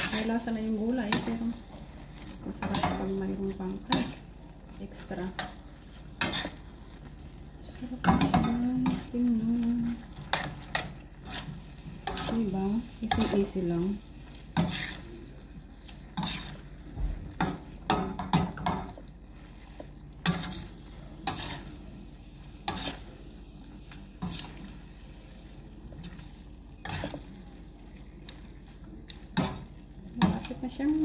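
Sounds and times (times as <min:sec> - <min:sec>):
frying sizzle: 0:00.0 - 0:31.0.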